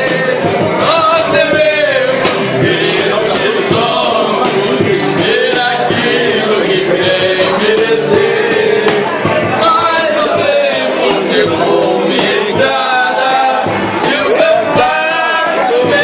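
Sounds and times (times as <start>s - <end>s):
men singing over music: 0.0s - 16.0s.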